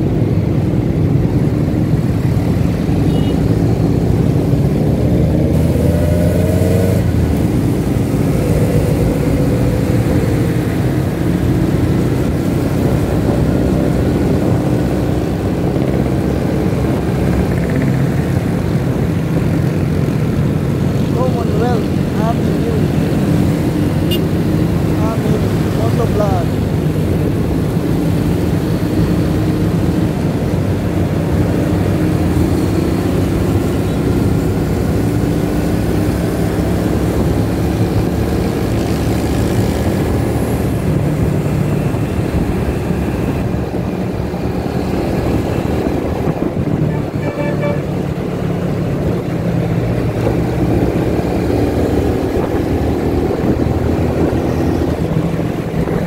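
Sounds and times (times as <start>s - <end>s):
surrounding traffic noise: 0.0s - 56.0s.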